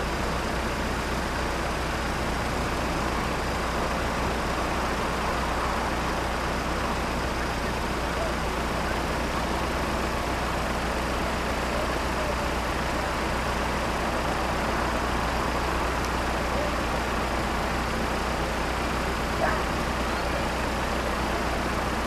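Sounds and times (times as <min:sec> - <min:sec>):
traffic noise: 0:00.0 - 0:22.0
vehicle engines idling: 0:00.0 - 0:22.0.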